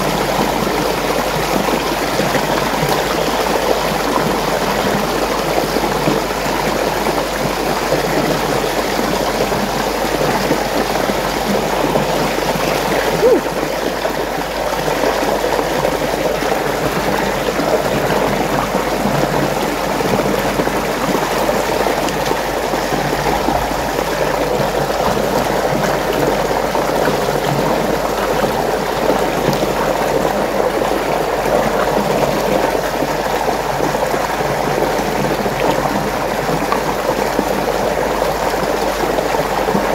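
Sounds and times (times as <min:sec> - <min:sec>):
water rushing in whirlpool: 0:00.0 - 0:39.9.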